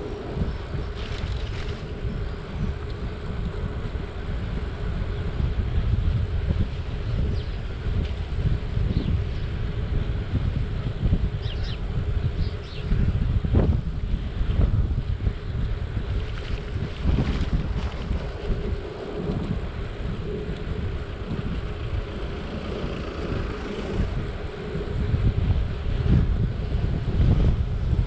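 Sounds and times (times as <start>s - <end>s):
faint steady hum: 0.0s - 28.0s
wind buffeting microphone: 0.0s - 28.0s.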